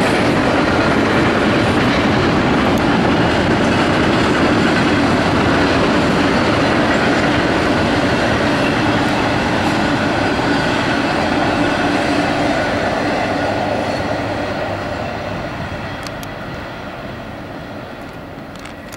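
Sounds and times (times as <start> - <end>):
steel wheels rumbling on rail: 0.0 - 18.9.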